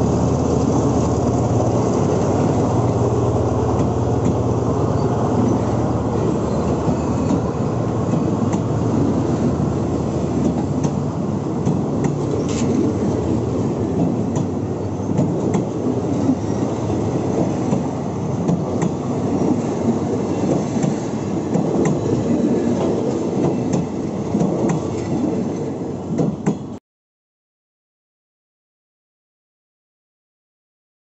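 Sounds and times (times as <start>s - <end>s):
train wheels rumbling on rails: 0.0s - 26.8s.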